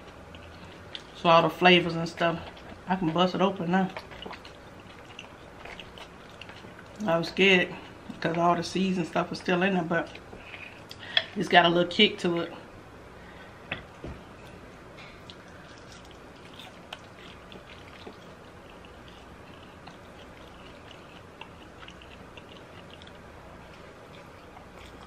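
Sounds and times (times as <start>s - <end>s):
person chewing noodles: 0.0s - 1.2s, 1.8s - 8.5s, 9.2s - 11.1s, 13.4s - 25.0s.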